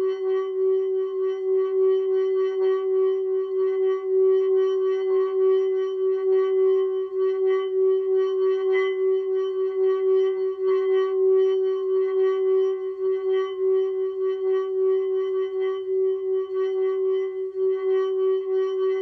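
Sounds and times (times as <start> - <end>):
singing bowl ringing tone: 0.0 - 19.0.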